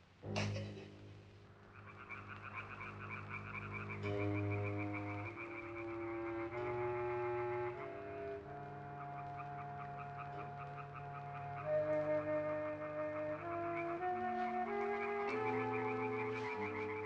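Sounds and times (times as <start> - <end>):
low music chords: 0.2 - 17.0
frogs croaking in trills: 0.3 - 17.0.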